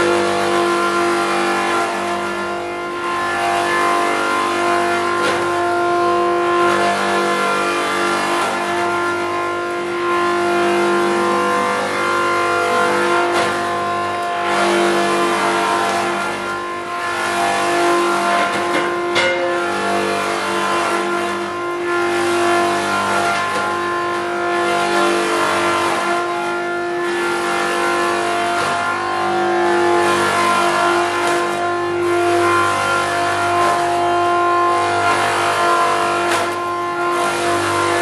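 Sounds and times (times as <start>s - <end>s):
wood shaving machine humming: 0.0s - 38.0s.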